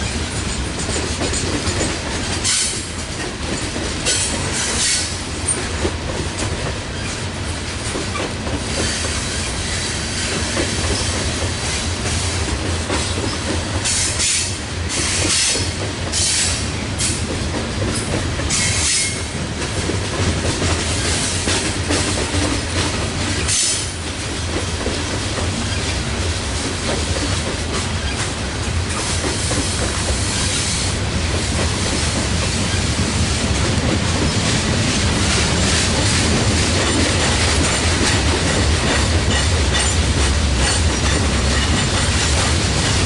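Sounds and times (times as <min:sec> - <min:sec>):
wheels clacking over rail joints: 0:00.0 - 0:09.6, 0:10.3 - 0:26.0, 0:31.3 - 0:43.0
train wheels rumbling on rails: 0:00.0 - 0:43.0.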